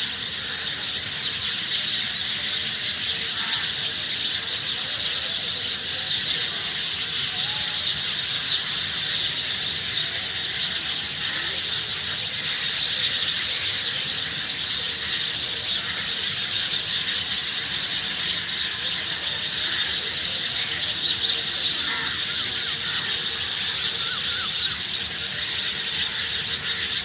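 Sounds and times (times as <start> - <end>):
flock of sparrows chirping: 0.0 - 27.0.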